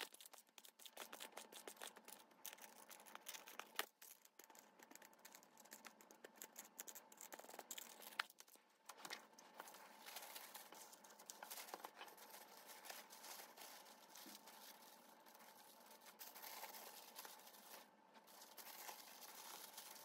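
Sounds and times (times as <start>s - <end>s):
wrapping paper crinkling: 0.0s - 20.0s.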